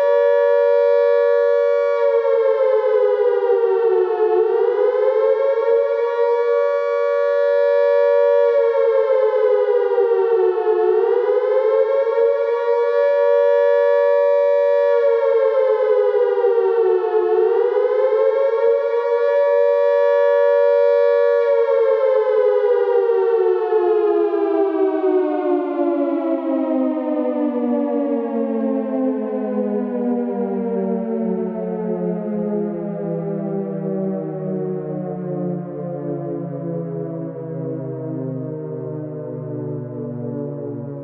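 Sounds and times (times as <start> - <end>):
air raid siren wailing: 0.0 - 41.0.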